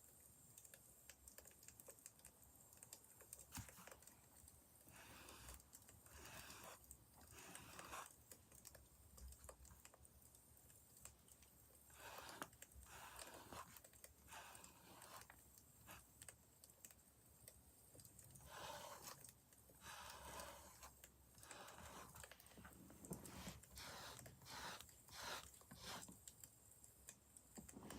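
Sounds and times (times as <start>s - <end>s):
faint wood fire crackling: 0.0s - 27.9s.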